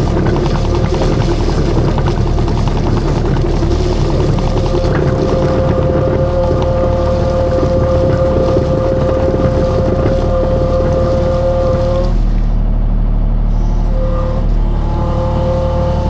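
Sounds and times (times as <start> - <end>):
skid steer engine running: 0.0 - 16.0
steady whine: 0.0 - 16.0.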